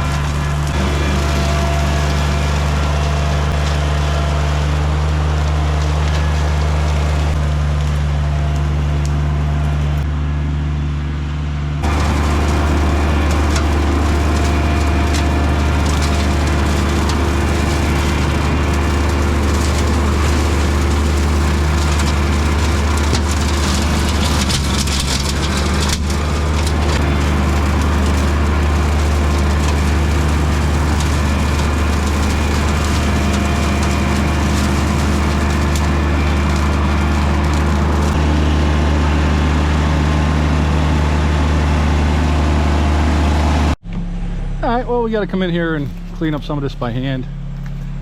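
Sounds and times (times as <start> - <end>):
tractor mowing brush: 0.0 - 48.0.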